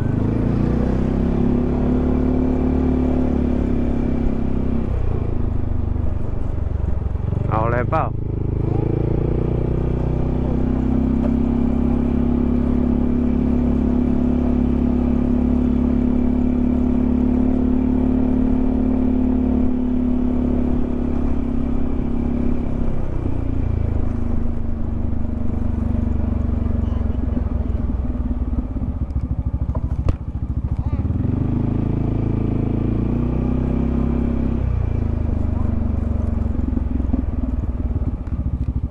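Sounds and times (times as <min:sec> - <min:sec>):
scooter engine running: 0:00.0 - 0:38.9.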